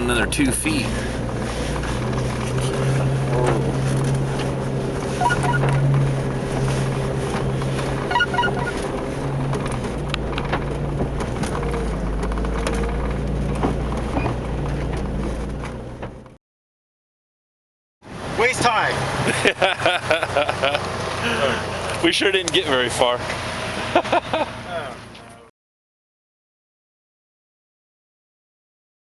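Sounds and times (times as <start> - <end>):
vehicle engine running at low speed: 0.0 - 16.4, 18.1 - 25.5.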